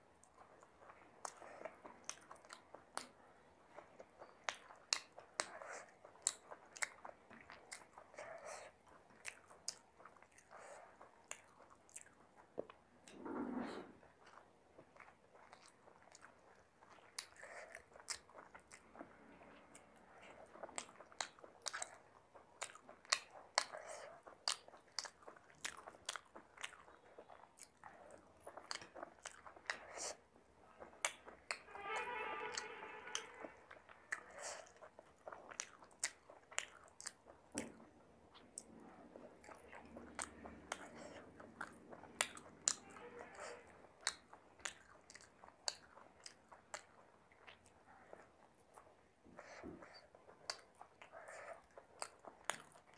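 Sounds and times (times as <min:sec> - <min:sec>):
wet chewing and lip-smacking: 0:00.0 - 0:13.2, 0:13.9 - 0:52.9.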